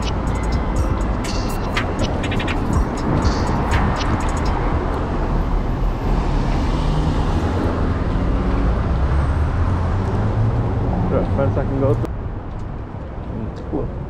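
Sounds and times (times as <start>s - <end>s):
cars passing with road rumble: 0.0s - 14.0s.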